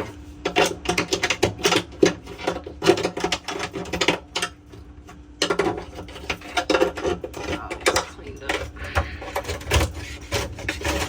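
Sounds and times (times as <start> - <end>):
food containers clattering: 0.0 - 11.0.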